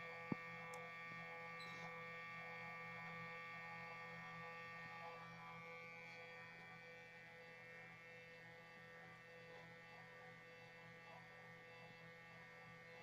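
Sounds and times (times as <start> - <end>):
stepper motor whine and buzz: 0.0 - 13.0.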